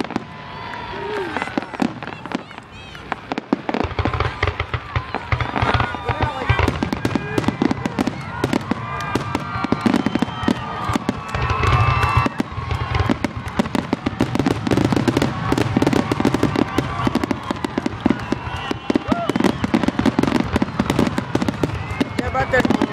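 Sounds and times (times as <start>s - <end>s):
fireworks crackling and banging: 0.0s - 22.9s.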